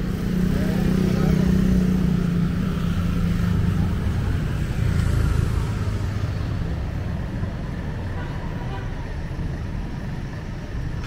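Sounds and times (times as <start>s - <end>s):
traffic rumble: 0.0s - 11.0s
vehicle engine humming: 0.0s - 11.0s.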